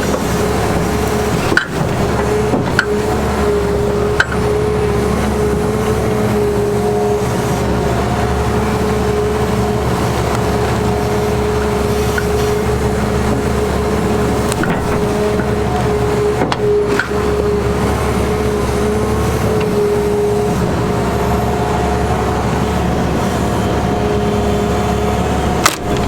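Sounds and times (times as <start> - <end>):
engine whine: 0.0 - 26.0
excavator diesel engine running: 0.0 - 26.0.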